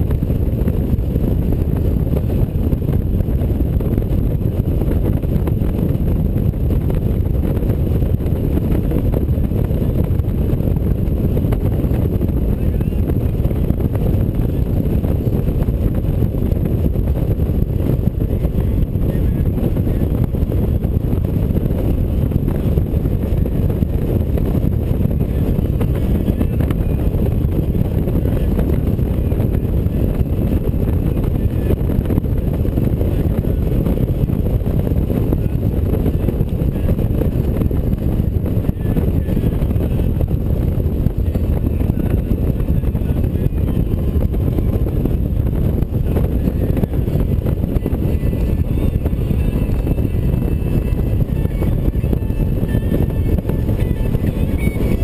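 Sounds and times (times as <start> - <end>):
wind rush: 0.0 - 55.0.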